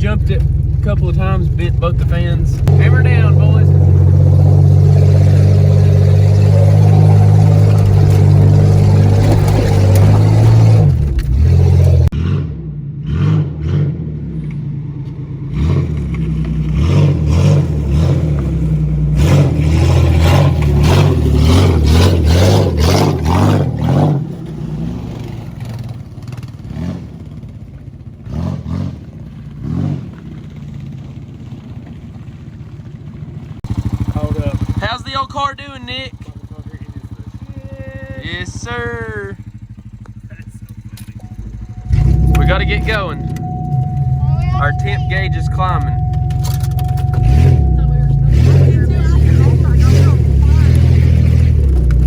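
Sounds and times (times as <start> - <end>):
car body clattering over rough trail: 0.0 - 12.2, 14.3 - 52.0
car engine revving: 0.0 - 52.0.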